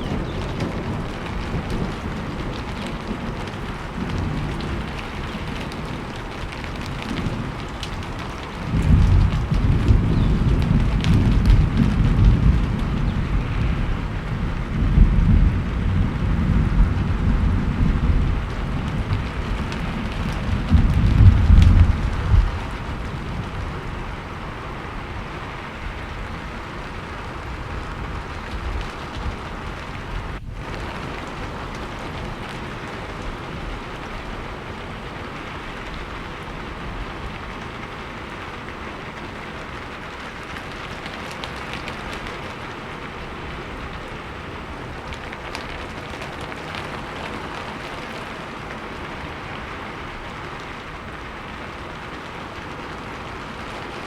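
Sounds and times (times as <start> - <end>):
low rumble of thunder: 0.0 - 54.0
steady rain falling: 0.0 - 54.0.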